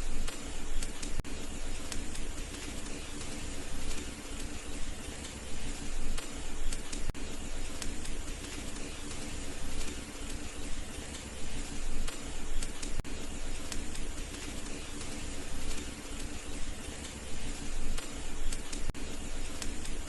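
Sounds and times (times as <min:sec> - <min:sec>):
fire popping: 0:00.0 - 0:20.0
wood fire crackling: 0:00.0 - 0:20.0.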